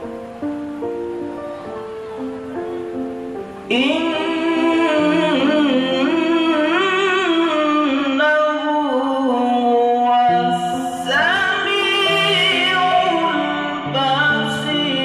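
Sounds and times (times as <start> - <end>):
person singing ornamented melody: 0.0 - 15.0.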